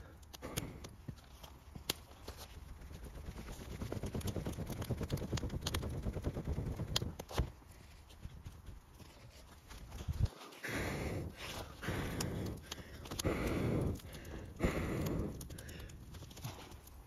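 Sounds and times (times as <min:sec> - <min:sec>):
campfire crackling: 0:00.0 - 0:17.0
fire snaps and pops: 0:00.0 - 0:17.0.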